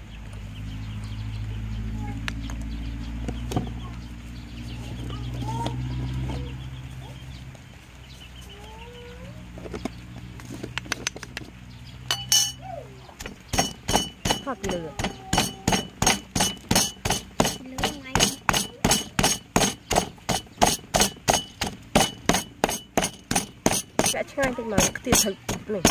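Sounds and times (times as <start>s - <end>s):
chickens clucking: 1.5s - 25.9s.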